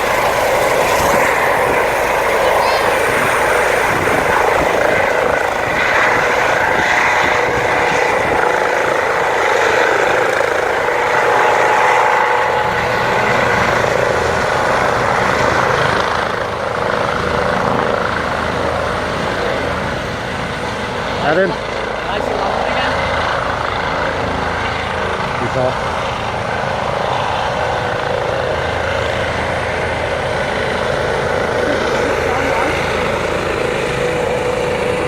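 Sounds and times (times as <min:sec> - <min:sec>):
helicopter engine and rotor: 0:00.0 - 0:35.0.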